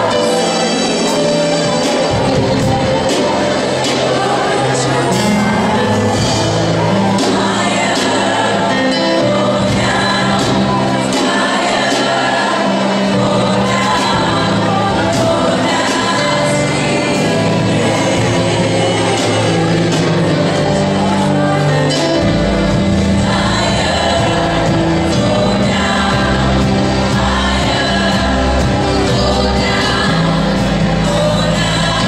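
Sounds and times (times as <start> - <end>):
keyboard accompaniment: 0.0 - 32.0
lead singer: 0.0 - 32.0
women's choir singing gospel: 0.0 - 32.0.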